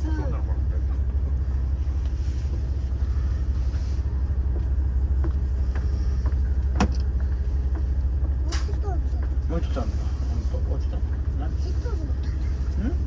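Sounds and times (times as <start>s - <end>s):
train engine idling: 0.0s - 13.0s.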